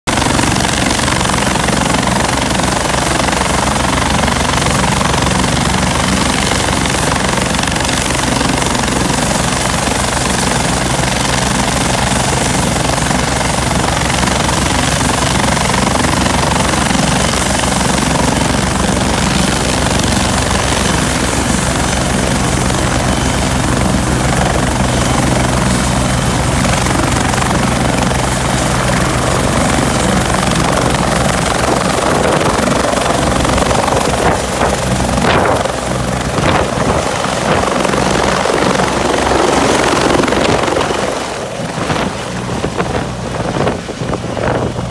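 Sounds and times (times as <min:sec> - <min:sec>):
helicopter rotor beating: 0:00.1 - 0:44.9
high turbine whine: 0:00.1 - 0:44.9.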